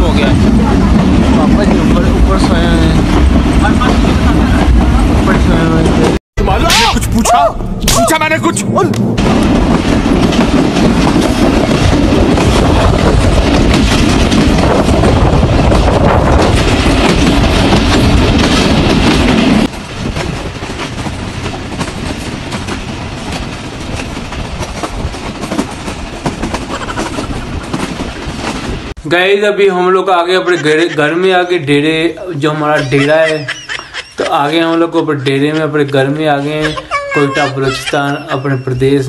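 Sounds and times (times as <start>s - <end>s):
train wheels on rails: 0.0s - 7.0s, 8.2s - 39.0s.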